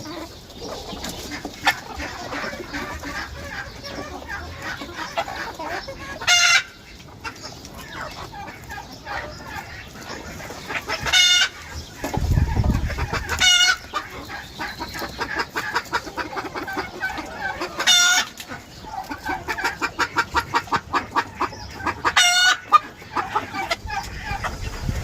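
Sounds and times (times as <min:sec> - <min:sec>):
chickens clucking: 0:00.0 - 0:25.0
loud chicken calls: 0:00.0 - 0:25.0.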